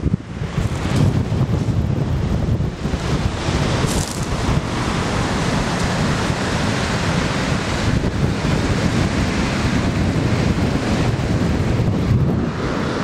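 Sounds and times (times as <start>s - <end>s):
sea waves washing on shore: 0.0s - 13.0s
strong wind on microphone: 0.0s - 13.0s.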